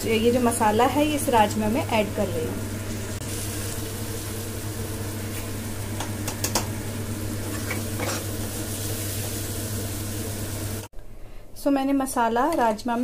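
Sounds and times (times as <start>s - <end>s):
low appliance hum: 0.0s - 13.0s.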